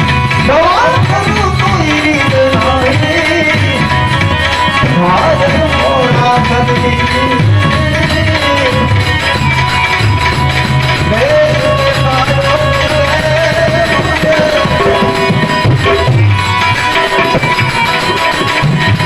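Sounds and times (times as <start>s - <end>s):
sliding melody line: 0.0s - 19.0s
tabla rhythm: 0.0s - 19.0s.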